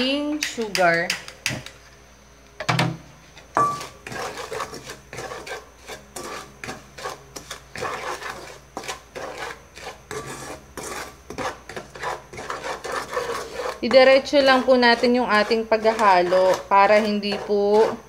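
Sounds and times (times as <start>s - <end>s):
wooden spatula scraping wok: 3.2s - 18.0s.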